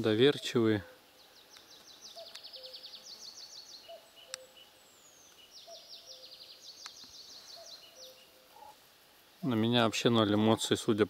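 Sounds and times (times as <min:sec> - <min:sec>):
songbird trills: 0:00.0 - 0:09.6.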